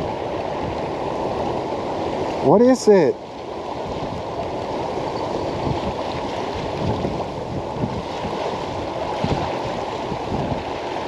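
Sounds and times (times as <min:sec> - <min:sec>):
wind buffeting microphone: 0:00.0 - 0:02.6, 0:03.2 - 0:11.0.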